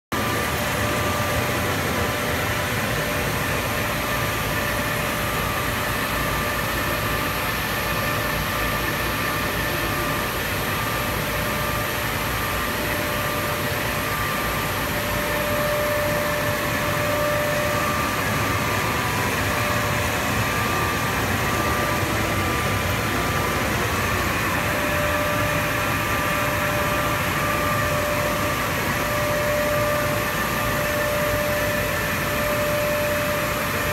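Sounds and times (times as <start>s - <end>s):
cutting machine hum: 0.2s - 33.9s.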